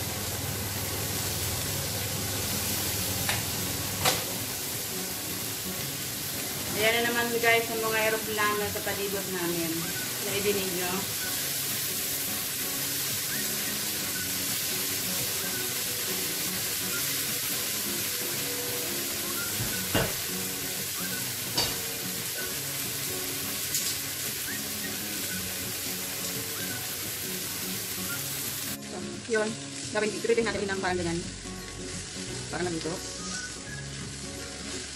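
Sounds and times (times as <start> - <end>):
shrimp sizzling in oil: 0.0 - 34.9.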